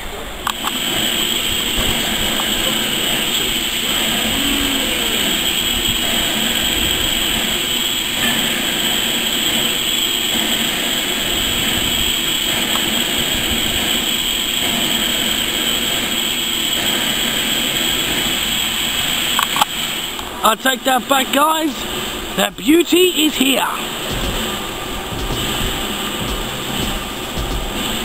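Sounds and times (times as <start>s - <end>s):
steam hissing from locomotive: 0.0s - 28.0s.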